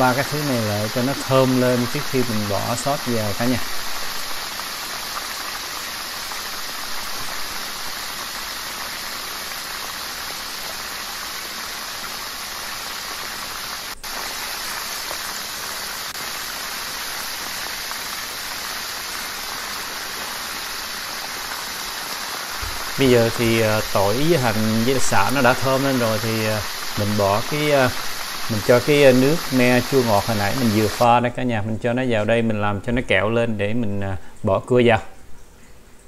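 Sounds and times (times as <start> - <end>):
food sizzling in hot oil: 0.0 - 31.1.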